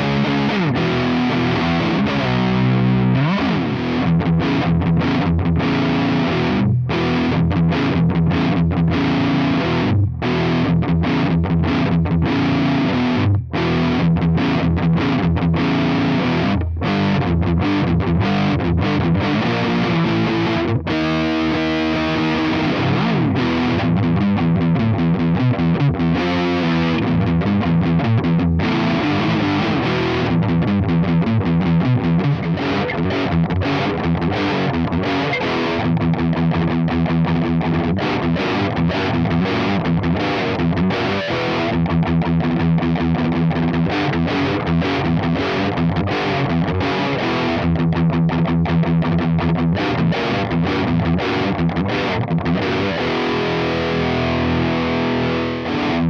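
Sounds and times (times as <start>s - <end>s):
distorted electric guitar metal riffs: 0.0s - 56.0s.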